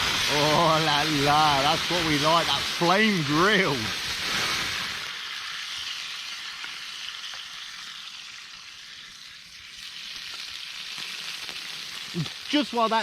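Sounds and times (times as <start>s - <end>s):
faint crackles: 0.0s - 13.0s
meat sizzling in a pan: 0.0s - 13.0s.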